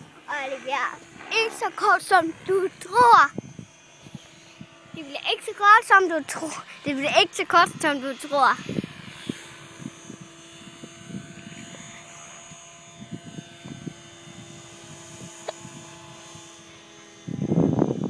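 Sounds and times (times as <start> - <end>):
model aircraft motor drone: 0.0 - 18.0.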